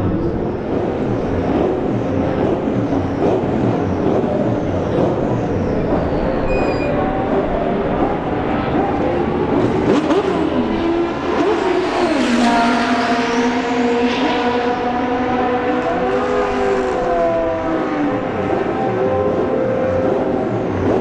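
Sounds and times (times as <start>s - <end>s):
racing car engines revving: 0.0s - 21.0s.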